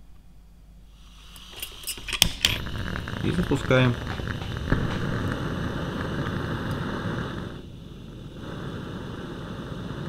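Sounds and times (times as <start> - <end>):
gas lantern burner hissing: 0.9 - 10.0.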